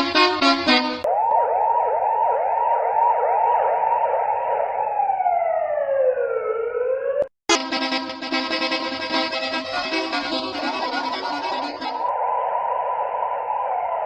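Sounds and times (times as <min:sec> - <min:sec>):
emergency siren yelping and wailing: 0:00.0 - 0:14.0.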